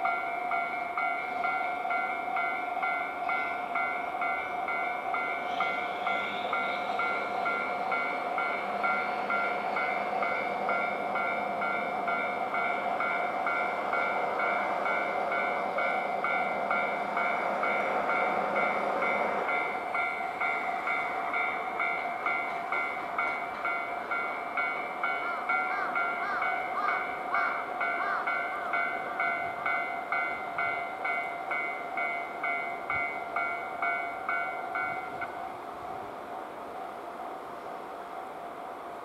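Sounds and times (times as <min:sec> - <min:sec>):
level-crossing warning bell: 0:00.0 - 0:36.0
electric train rumble: 0:00.0 - 0:39.0.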